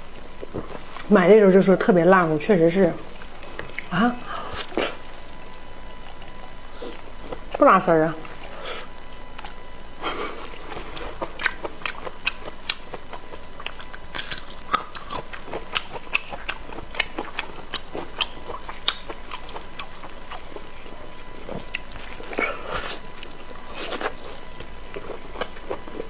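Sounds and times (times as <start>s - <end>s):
close chewing with mouth clicks: 3.1s - 7.6s, 8.2s - 26.0s.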